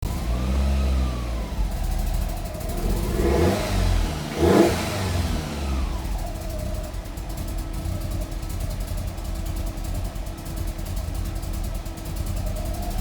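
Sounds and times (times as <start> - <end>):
car engine idling roughly: 0.0 - 13.0
exhaust puffs: 0.0 - 13.0.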